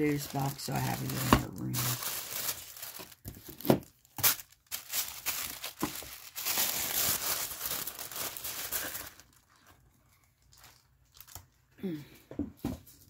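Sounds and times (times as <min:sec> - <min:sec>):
tissue paper rustling and crinkling: 0:00.0 - 0:11.6.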